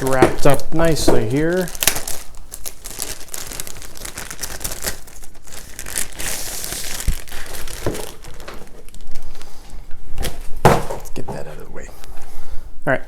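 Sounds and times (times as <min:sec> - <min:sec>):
packaging wrap crinkling: 0:00.0 - 0:10.6.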